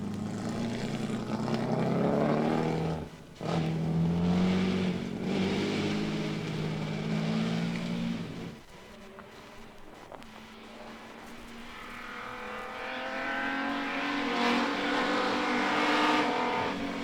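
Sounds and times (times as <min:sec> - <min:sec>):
racing car engine: 0:00.0 - 0:09.3, 0:10.5 - 0:17.0.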